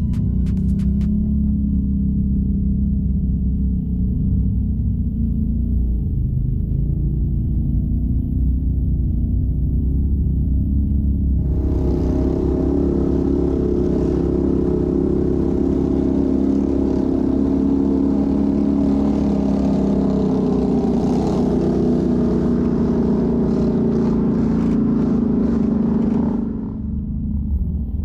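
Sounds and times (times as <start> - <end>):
off-road vehicle engine running: 0.0 - 28.0.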